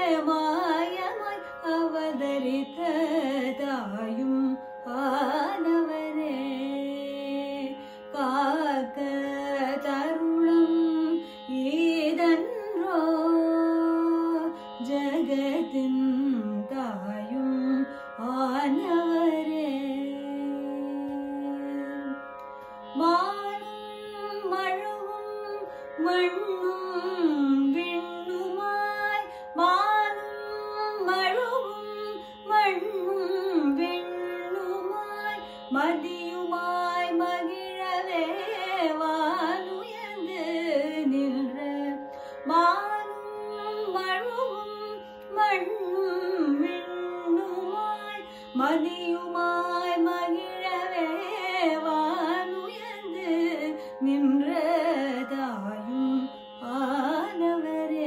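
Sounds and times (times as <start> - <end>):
woman singing classical vocals: 0.0 - 22.2, 22.8 - 58.0.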